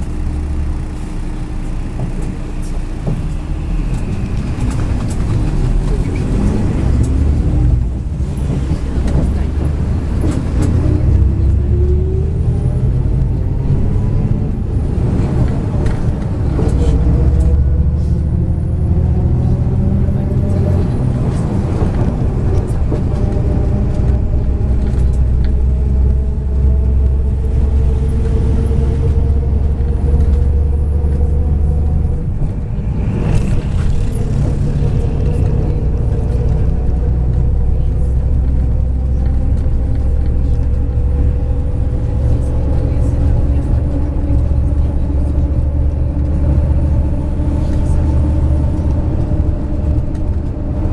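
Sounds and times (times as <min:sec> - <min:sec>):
bus engine accelerating: 0:00.0 - 0:50.9
deep road rumble: 0:00.0 - 0:50.9.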